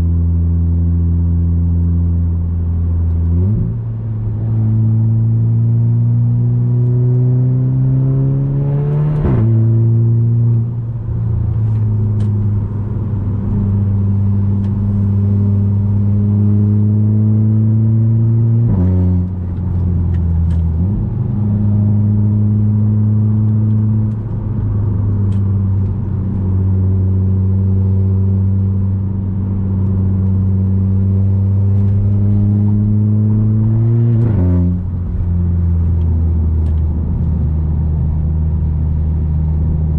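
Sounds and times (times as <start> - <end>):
car engine under load: 0.0 - 39.9.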